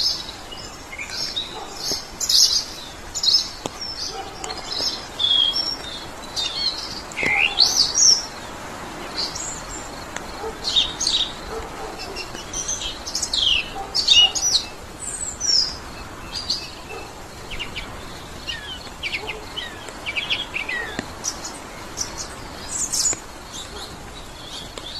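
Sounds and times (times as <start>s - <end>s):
birds chirping and singing: 0.0s - 24.9s
faint steady hiss: 0.0s - 24.9s.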